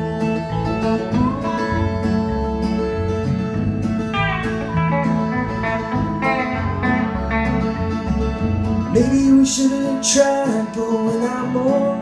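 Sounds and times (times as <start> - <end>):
bass line: 0.0 - 12.0
sliding guitar lead: 0.0 - 12.0.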